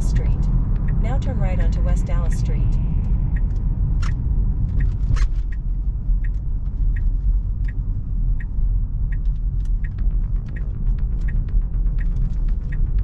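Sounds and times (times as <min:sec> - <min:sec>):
car cabin road rumble: 0:00.0 - 0:13.0
turn signal ticking: 0:00.0 - 0:13.0.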